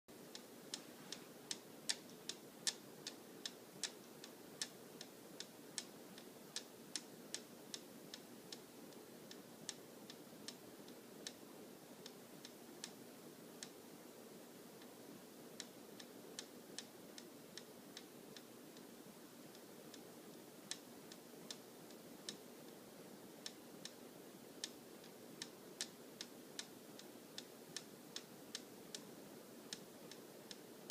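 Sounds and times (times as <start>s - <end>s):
ceiling fan humming: 0.1s - 30.9s
fan blades clicking on lights: 0.2s - 13.8s, 14.5s - 30.9s.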